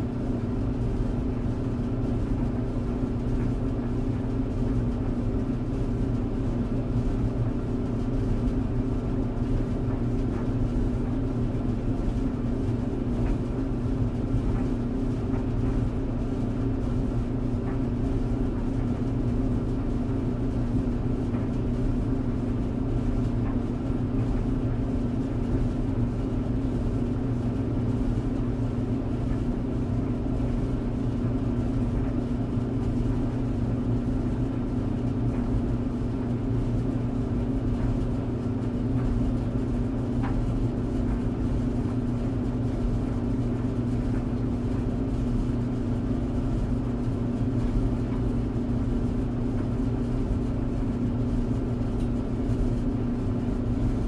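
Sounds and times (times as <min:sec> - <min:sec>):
tumble dryer humming: 0:00.0 - 0:54.0.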